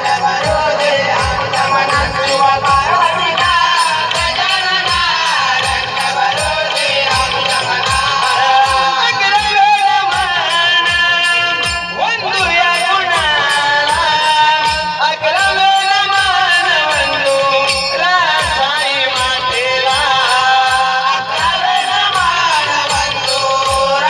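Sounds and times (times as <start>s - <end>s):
men singing folk song: 0.0s - 24.0s
steady drum beat: 0.0s - 24.0s.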